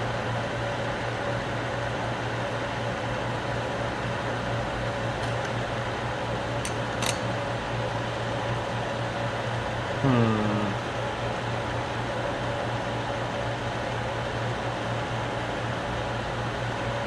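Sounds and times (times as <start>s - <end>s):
projector cooling fan humming: 0.0s - 17.0s.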